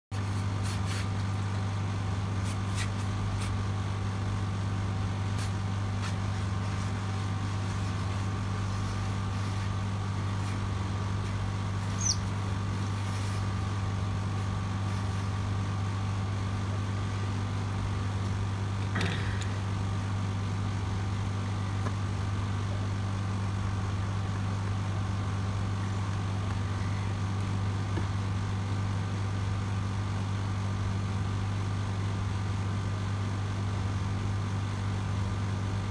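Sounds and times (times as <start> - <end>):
low electrical hum: 0.2 - 35.9.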